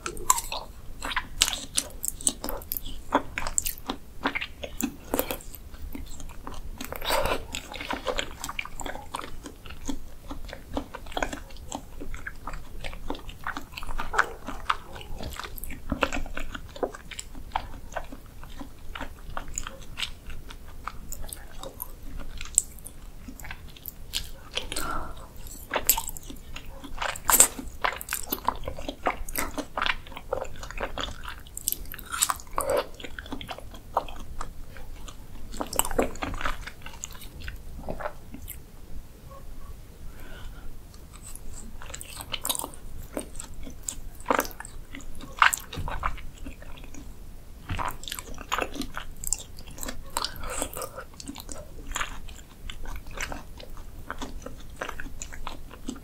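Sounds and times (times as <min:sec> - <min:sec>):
wet chewing and slurping: 0:00.0 - 0:38.7, 0:40.2 - 0:56.0.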